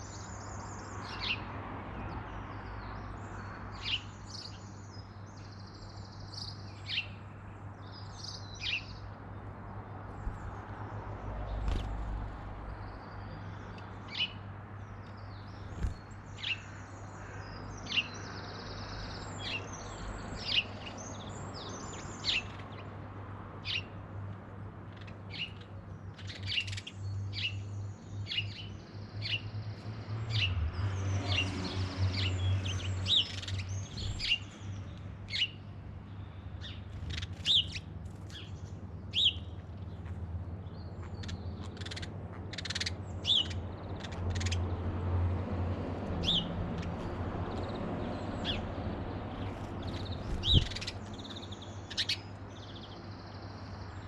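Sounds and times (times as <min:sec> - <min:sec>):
garden birds chirping: 0:00.0 - 0:54.0.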